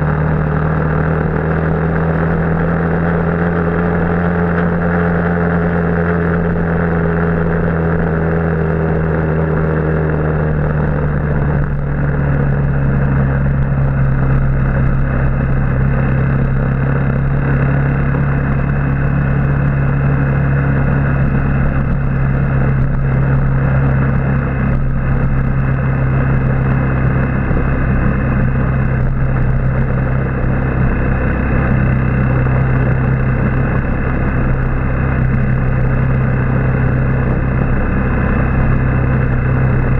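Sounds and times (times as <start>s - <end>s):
constant rush of noise: 0.0s - 39.9s
motorbike engine running: 0.0s - 39.9s.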